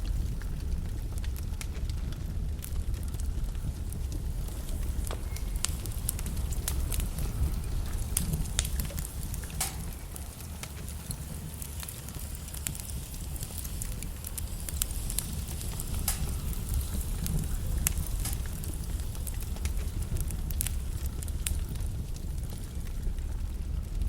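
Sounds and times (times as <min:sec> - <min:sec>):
flames rumbling in fireplace: 0:00.0 - 0:24.0
wood crackling and popping: 0:00.0 - 0:24.0.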